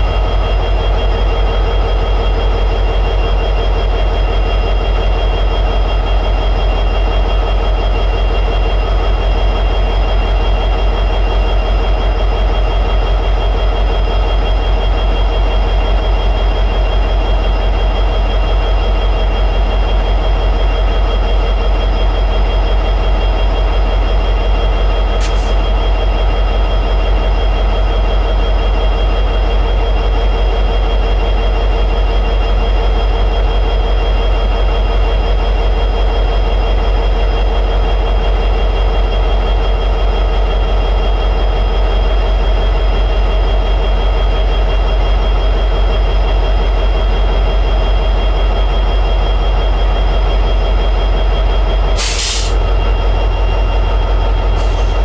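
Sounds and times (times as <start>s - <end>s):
diesel locomotive engine idling: 0.0s - 55.0s.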